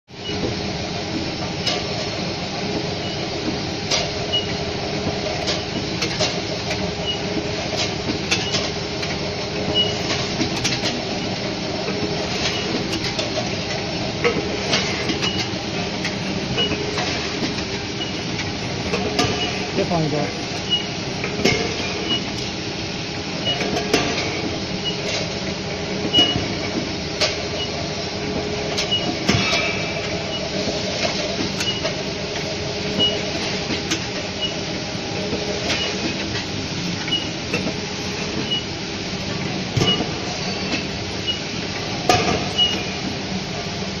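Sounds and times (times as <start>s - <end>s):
machine mechanical hum: 0.1s - 44.0s.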